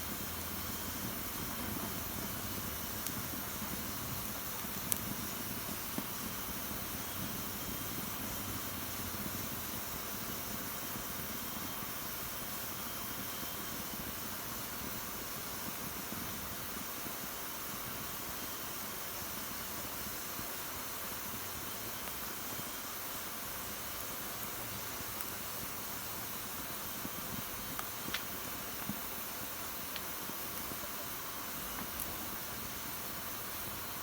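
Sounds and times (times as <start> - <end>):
fire crackling: 0.0 - 34.0
fire flames hissing: 0.0 - 34.0.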